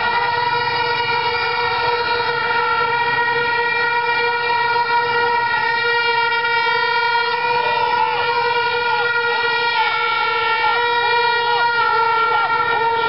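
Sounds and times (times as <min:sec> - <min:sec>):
plastic stadium horns droning: 0:00.0 - 0:13.0.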